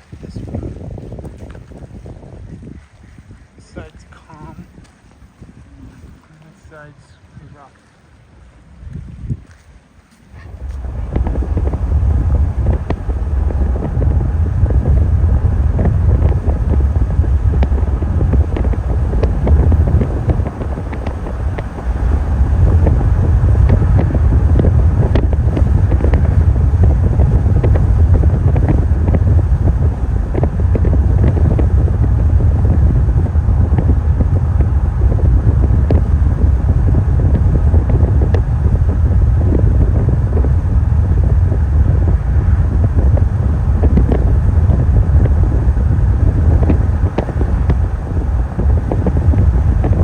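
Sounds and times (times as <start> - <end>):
wind buffeting microphone: 0.0 - 7.7, 8.3 - 9.7, 10.3 - 50.0.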